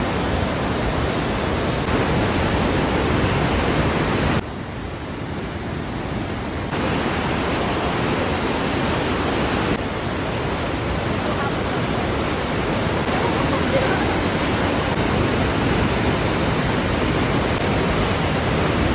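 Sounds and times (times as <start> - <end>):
river rushing: 0.0 - 18.9.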